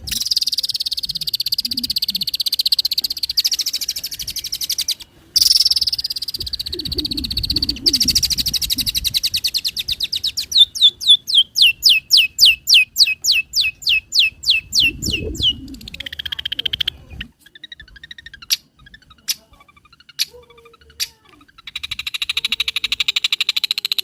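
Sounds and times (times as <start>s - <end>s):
shrike rattling chatter: 0.0s - 11.0s, 13.1s - 24.0s.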